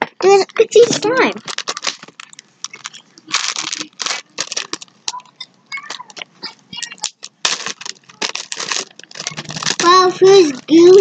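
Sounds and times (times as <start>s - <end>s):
plastic bag crinkling: 0.1s - 6.2s, 6.8s - 11.0s.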